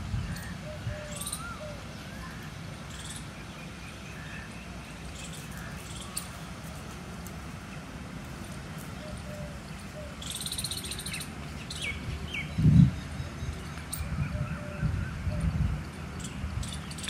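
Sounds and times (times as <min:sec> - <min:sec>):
birds chattering and chirping: 0:00.0 - 0:17.0.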